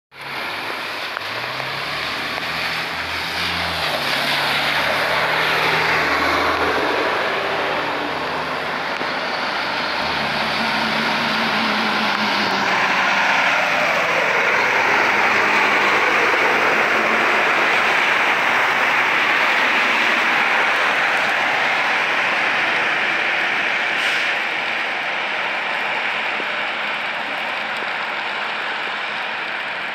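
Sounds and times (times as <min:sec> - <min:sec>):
truck diesel engine under load: 0:00.1 - 0:29.9
tyres hissing on wet road: 0:00.2 - 0:29.9.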